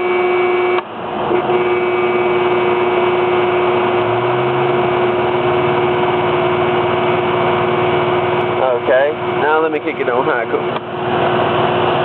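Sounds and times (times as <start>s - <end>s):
deep pulsing hum: 0.0s - 12.0s
truck engine idling: 0.0s - 12.0s.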